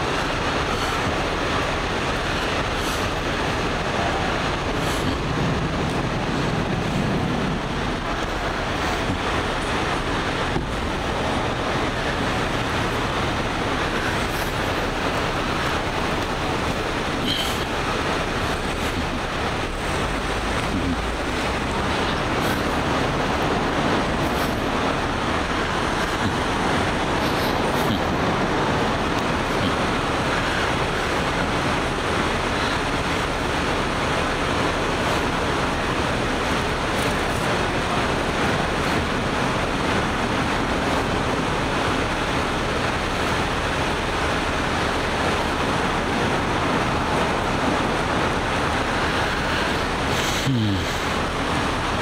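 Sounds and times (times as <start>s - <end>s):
loud road traffic roar: 0.0s - 52.0s.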